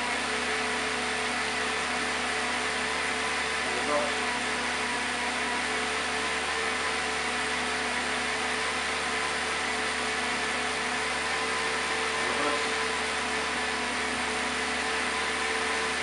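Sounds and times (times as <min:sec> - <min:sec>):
bike trainer whirring: 0:00.0 - 0:16.0.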